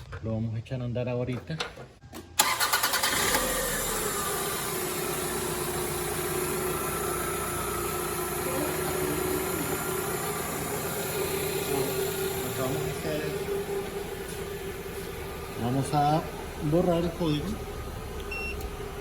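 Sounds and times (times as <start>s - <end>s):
car engine starting and idling: 2.2s - 19.0s.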